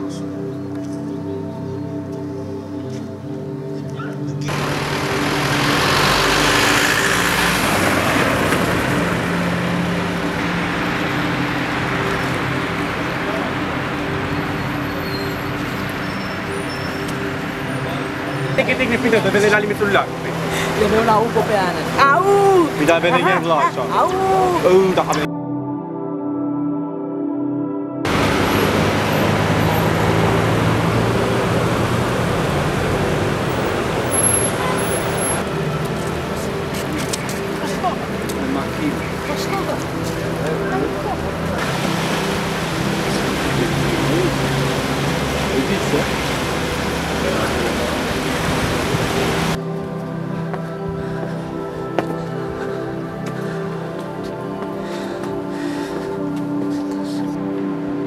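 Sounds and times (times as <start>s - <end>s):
car driving on paved street: 0.0s - 25.3s, 28.1s - 58.0s
soft ambient music: 0.0s - 58.0s.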